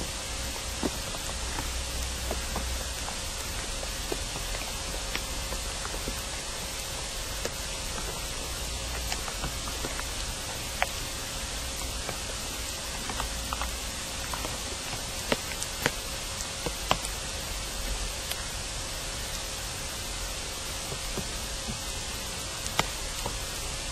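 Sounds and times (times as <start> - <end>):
faint steady hum: 0.0 - 23.9
steady hiss: 0.0 - 23.9.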